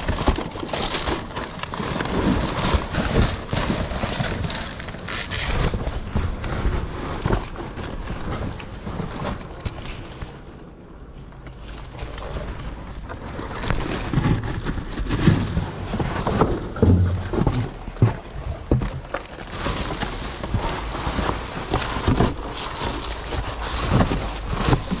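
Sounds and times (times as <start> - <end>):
boxes knocking and thumping: 0.0 - 10.2, 11.9 - 25.0
cardboard rustling and scraping: 0.0 - 25.0.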